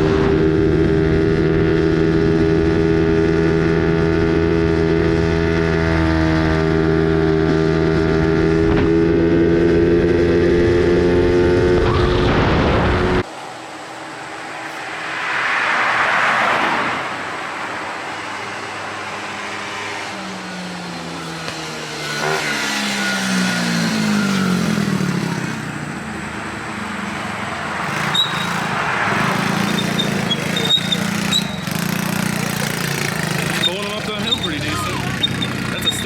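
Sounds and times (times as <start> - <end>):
pit bike engine revving: 0.0 - 13.3, 14.6 - 36.0.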